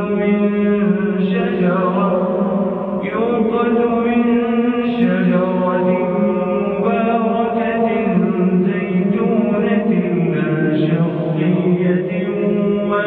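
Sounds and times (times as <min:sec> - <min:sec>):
person chanting melodic recitation: 0:00.0 - 0:13.0.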